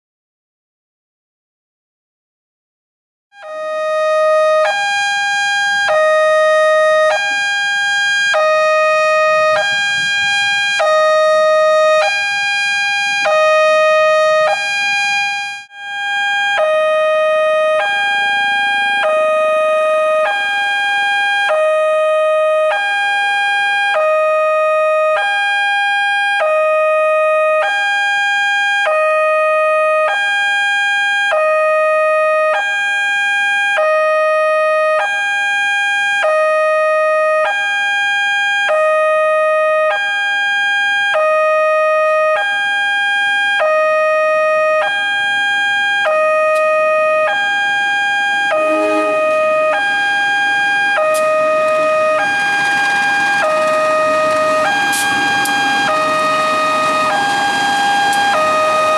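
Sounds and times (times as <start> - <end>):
two-tone level crossing alarm: 3.4 - 58.9.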